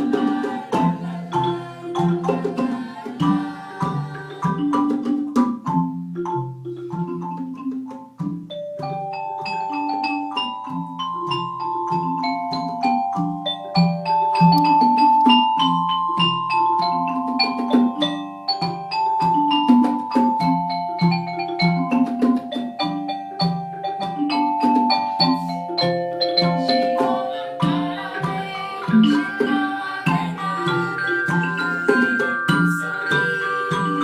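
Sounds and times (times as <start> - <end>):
mallet percussion bass pattern: 0.0 - 34.0
ringing metallophone notes: 0.0 - 34.0.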